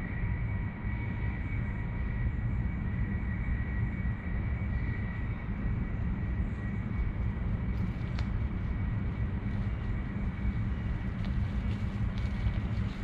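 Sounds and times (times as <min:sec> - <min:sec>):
faint high whine: 0:00.0 - 0:13.0
low outdoor rumble: 0:00.0 - 0:13.0.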